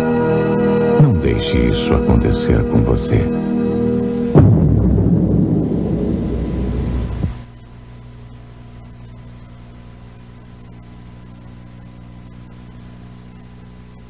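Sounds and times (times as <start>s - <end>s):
faint tape hiss: 0.0s - 14.0s
steady electrical hum: 0.0s - 14.0s.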